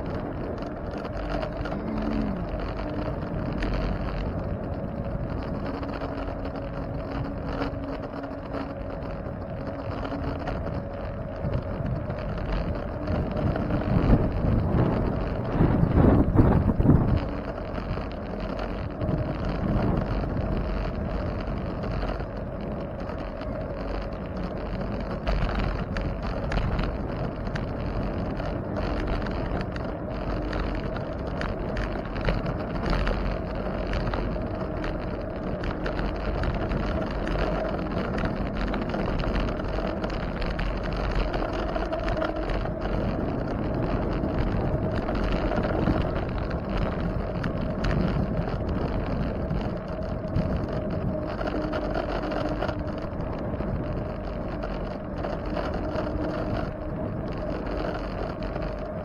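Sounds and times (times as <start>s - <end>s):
bicycle tyre road noise: 0.0s - 59.0s
wind noise on microphone: 0.0s - 59.0s.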